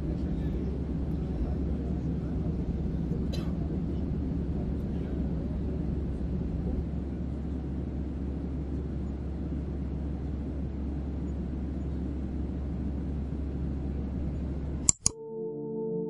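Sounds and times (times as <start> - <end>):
airliner cabin engine rumble: 0.0 - 14.9.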